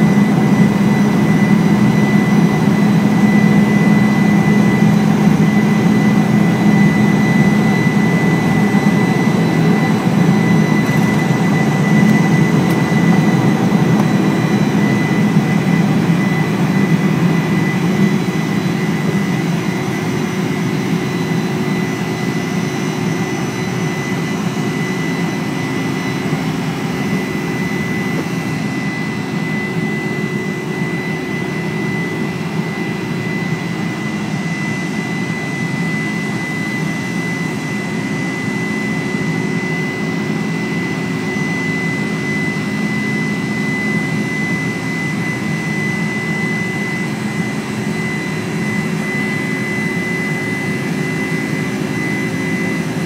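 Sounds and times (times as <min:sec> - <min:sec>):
jet engine roar with whine: 0:00.0 - 0:53.0.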